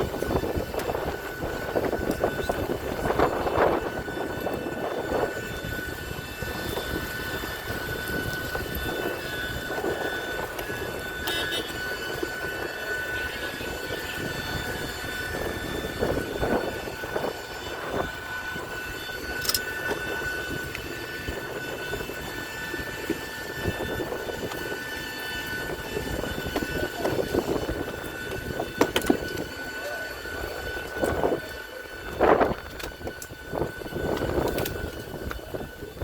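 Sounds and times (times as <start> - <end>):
jet turbines whining: 0.0 - 36.0.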